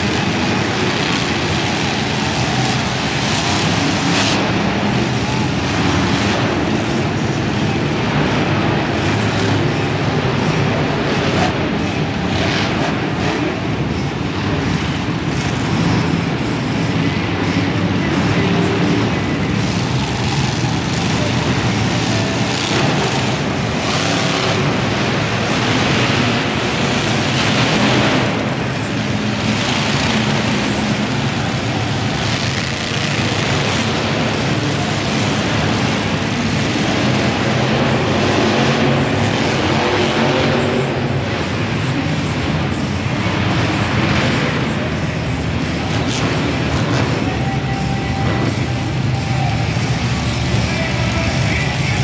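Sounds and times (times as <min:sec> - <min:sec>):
truck engines rumbling: 0:00.0 - 0:52.0.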